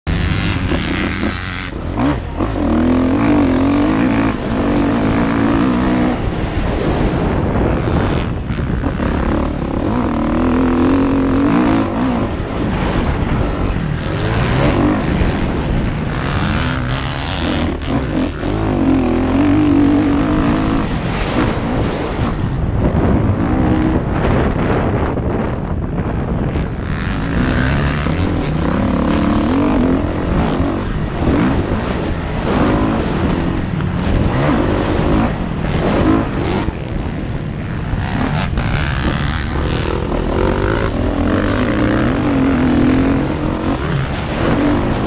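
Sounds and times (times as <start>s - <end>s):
constant rush of noise: 0.0s - 45.0s
dirt bike engine revving: 0.0s - 45.0s.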